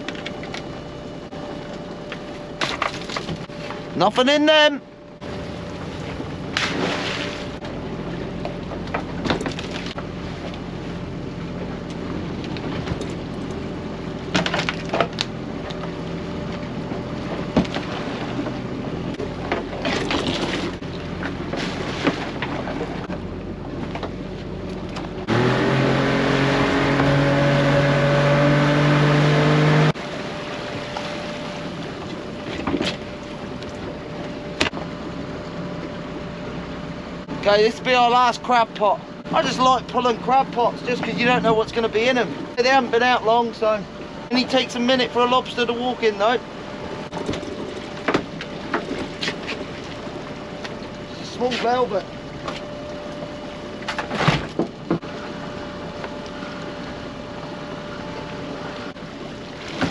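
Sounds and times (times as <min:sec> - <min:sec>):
small boat engine running: 0:00.0 - 0:59.9.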